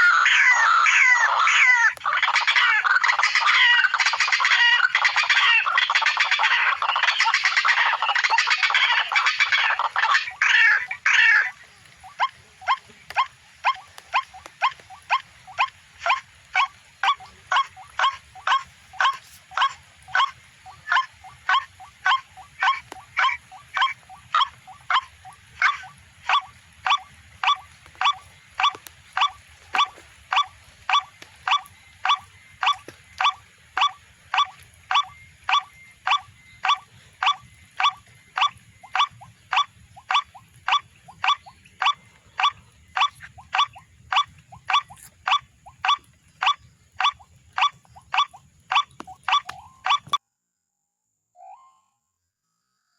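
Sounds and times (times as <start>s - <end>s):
bird call notes from speaker: 0.0s - 50.2s.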